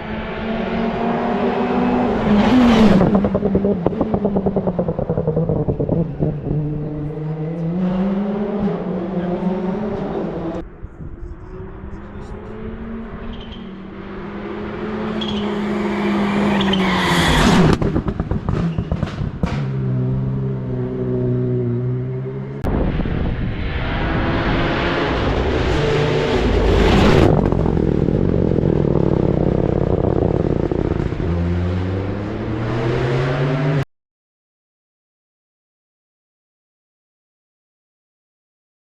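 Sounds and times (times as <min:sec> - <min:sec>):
rally car engine accelerating: 0:00.0 - 0:33.8.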